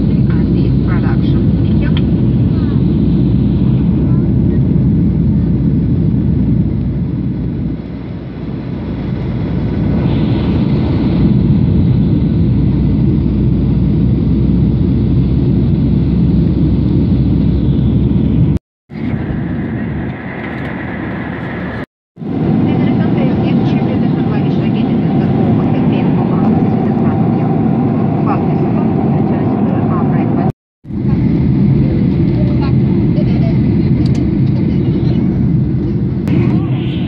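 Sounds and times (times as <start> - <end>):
airplane cabin engine noise: 0.0 - 37.0.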